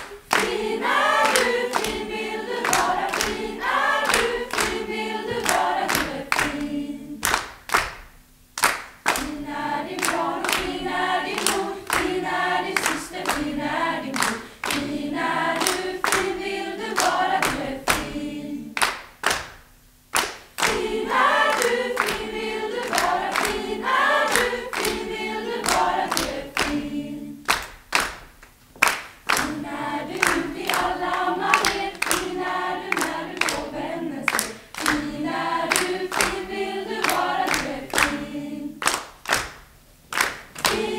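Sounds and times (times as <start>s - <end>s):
young women singing together: 0.0s - 7.5s, 9.0s - 18.9s, 20.6s - 27.7s, 29.3s - 39.0s, 40.2s - 40.9s
rhythmic hand claps: 0.0s - 40.9s.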